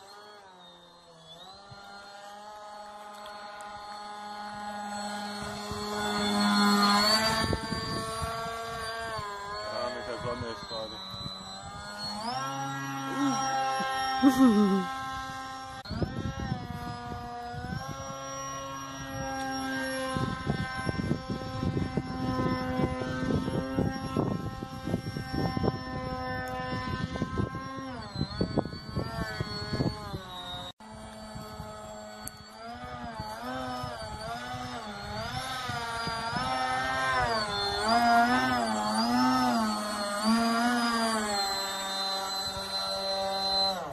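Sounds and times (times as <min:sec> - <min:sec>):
model plane motor whining: 0:00.0 - 0:43.9.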